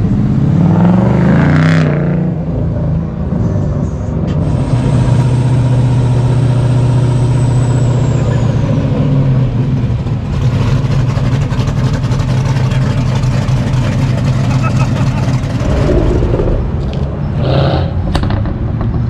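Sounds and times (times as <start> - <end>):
car engine deep exhaust: 0.0 - 19.0.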